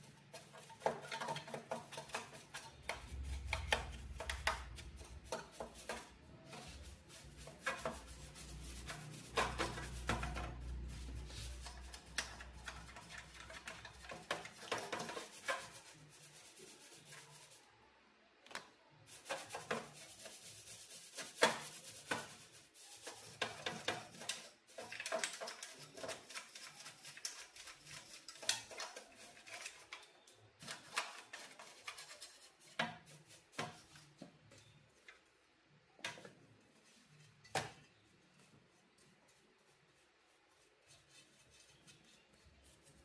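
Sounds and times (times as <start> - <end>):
rubbing and scraping: 0.0 - 17.7, 19.1 - 43.0.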